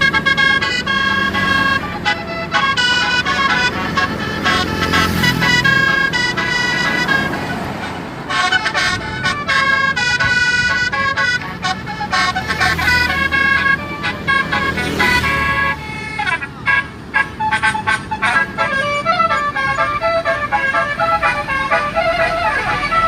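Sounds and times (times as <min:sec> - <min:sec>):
multi-tone bus horn melody: 0:00.0 - 0:23.0.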